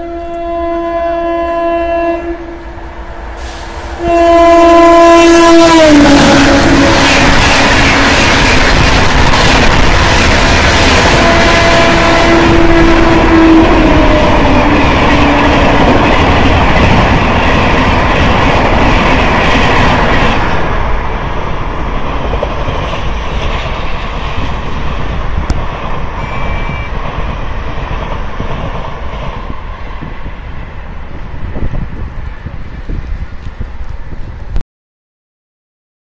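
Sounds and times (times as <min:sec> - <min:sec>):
distant train rumble: 0:00.0 - 0:34.6
train coaches rushing past: 0:02.1 - 0:34.5.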